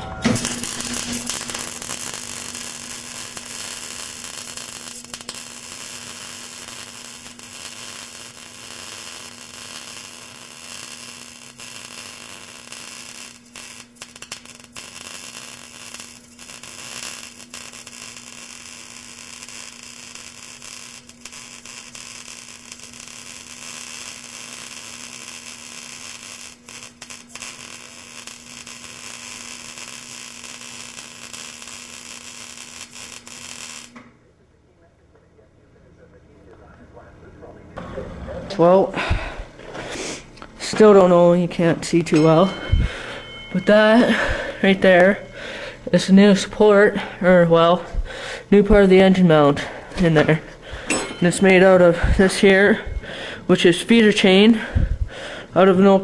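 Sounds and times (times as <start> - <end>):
welding arc crackling hiss: 0.0 - 34.0, 38.6 - 56.0
electrical hum: 0.0 - 56.0.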